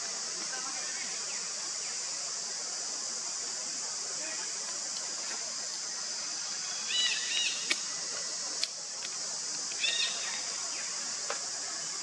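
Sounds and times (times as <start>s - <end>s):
high-pitched outdoor hiss: 0.0s - 12.0s.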